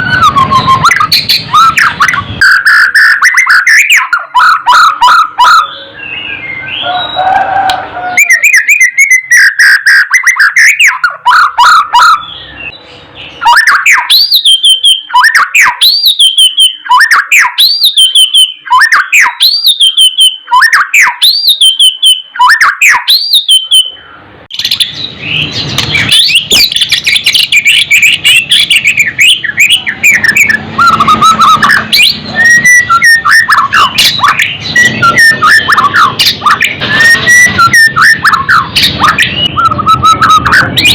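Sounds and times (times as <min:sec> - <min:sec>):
bird singing whistled song: 0:00.0 - 0:07.4, 0:08.0 - 0:40.9.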